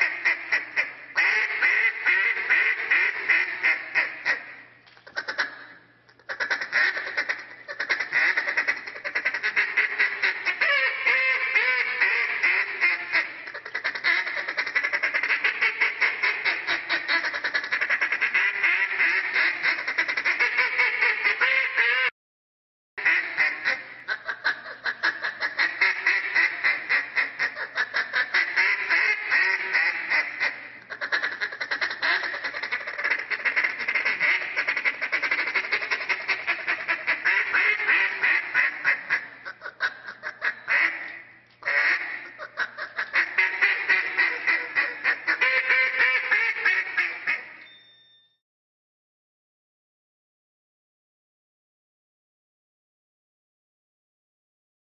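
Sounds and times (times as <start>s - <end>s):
duck call quacks: 0.0s - 22.1s, 23.0s - 47.6s.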